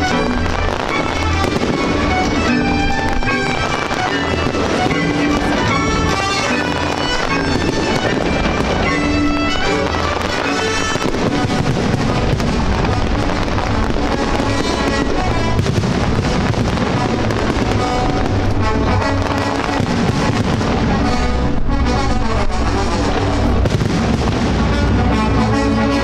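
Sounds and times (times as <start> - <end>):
fireworks bangs and crackles: 0.0 - 26.0
music with held notes: 0.0 - 26.0.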